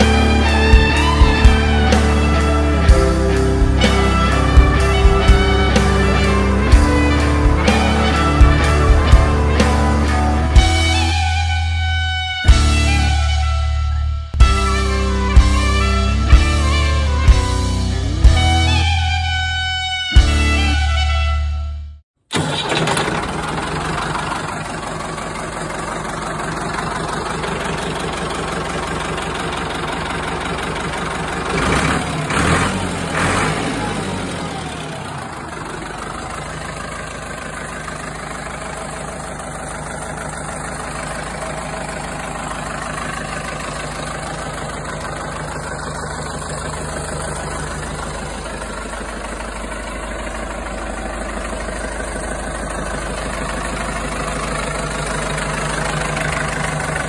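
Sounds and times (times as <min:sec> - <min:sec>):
tractor diesel engine idling: 0:00.0 - 0:21.3, 0:22.2 - 0:57.0.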